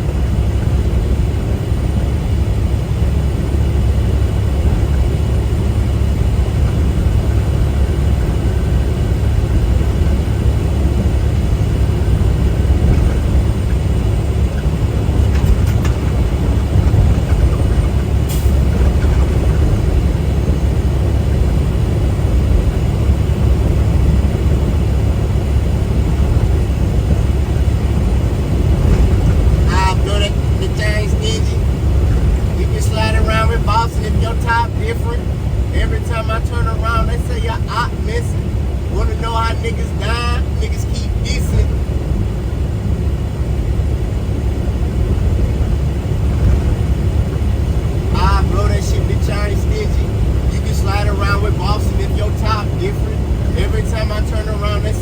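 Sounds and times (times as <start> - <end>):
truck engine and tyre rumble: 0.0 - 55.0.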